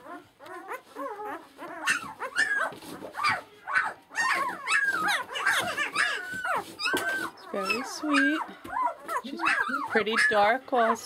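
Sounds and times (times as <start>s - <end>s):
puppies crying: 0.0s - 11.0s.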